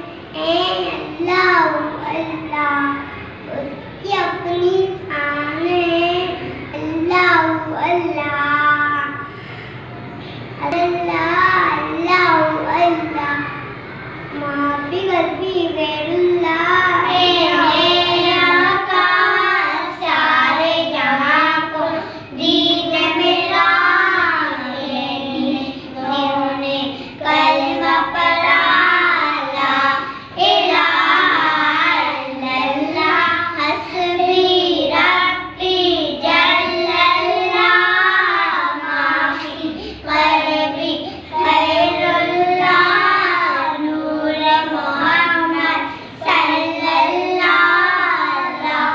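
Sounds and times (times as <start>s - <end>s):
children singing devotional song: 0.0s - 48.9s.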